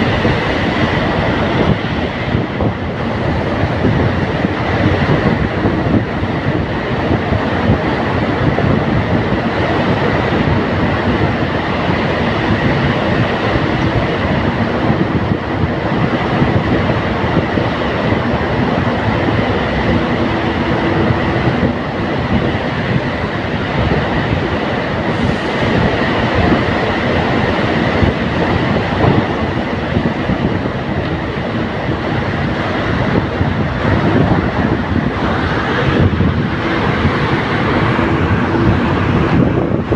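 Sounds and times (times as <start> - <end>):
vehicle rumbling in motion: 0.0 - 39.9.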